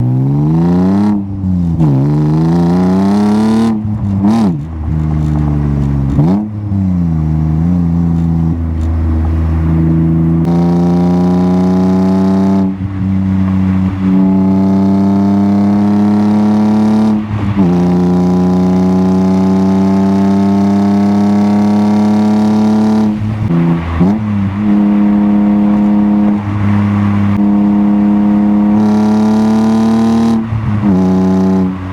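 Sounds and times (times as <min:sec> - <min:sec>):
car engine revving and accelerating: 0:00.0 - 0:31.9.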